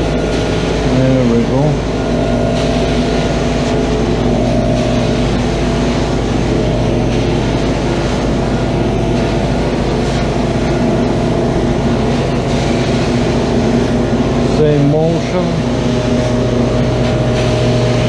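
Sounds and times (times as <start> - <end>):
carpet extractor humming: 0.0 - 18.0.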